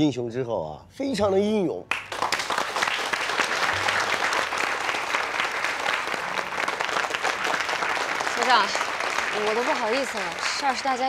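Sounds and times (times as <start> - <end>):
crowd applauding: 1.9 - 11.0.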